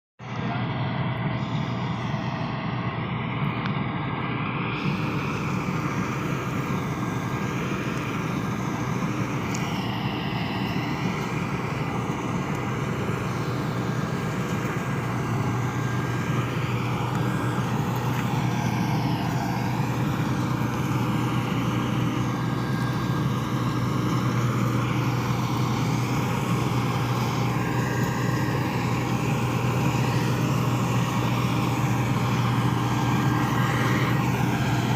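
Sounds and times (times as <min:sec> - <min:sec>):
combine harvester engine drone: 0:00.2 - 0:34.9.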